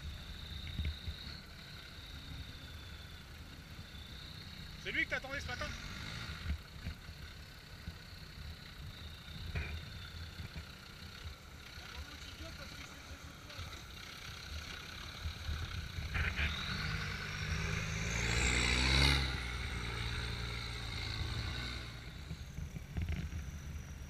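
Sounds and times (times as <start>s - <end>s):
vehicle engine passing by: 1.1s - 24.0s.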